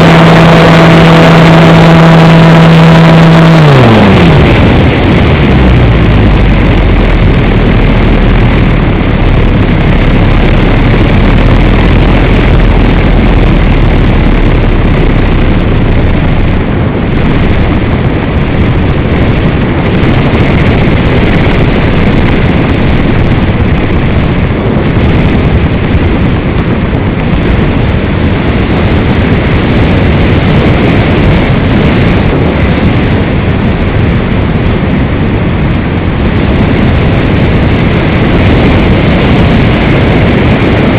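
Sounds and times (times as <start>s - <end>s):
airflow buffeting microphone: 0.0s - 40.9s.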